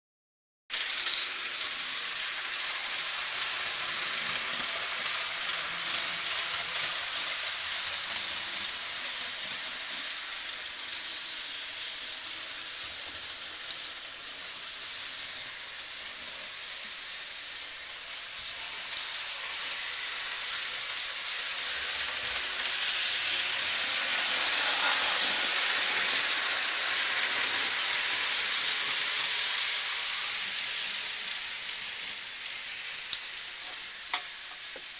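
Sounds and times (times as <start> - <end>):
model trains rolling on track: 0.7 - 34.9.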